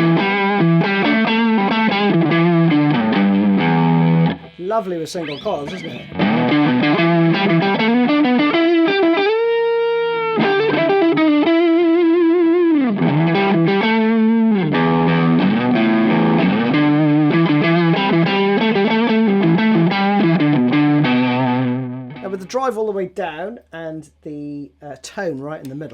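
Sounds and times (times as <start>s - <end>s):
overdriven electric guitar riff: 0.0s - 22.3s.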